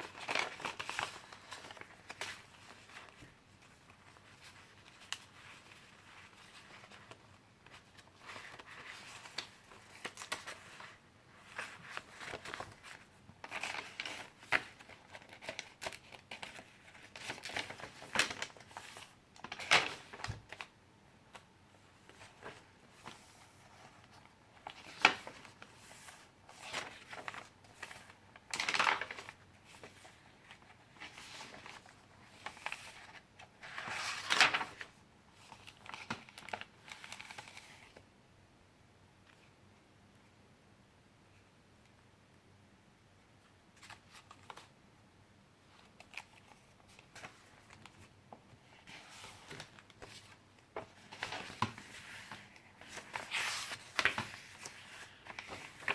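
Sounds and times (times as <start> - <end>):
paper pages rustling: 0.0 - 20.7, 21.3 - 38.0, 43.8 - 44.7, 45.7 - 55.9.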